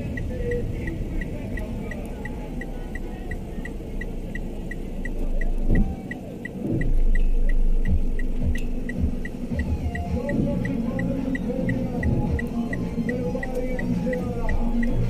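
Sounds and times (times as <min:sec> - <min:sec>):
high electronic beeps: 0:00.0 - 0:15.0
low rumble and hum: 0:00.0 - 0:15.0.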